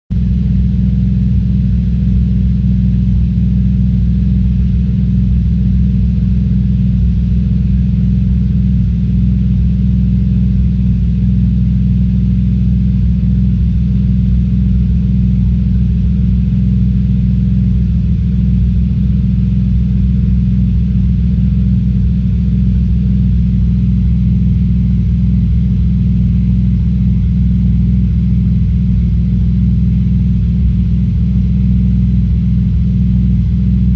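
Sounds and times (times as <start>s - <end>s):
car engine idling with misfire: 0.1s - 33.9s.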